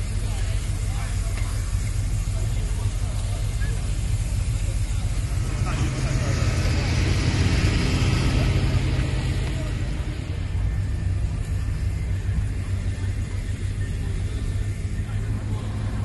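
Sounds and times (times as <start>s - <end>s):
low engine rumble: 0.0s - 16.0s
water spraying from hoses: 0.0s - 16.0s.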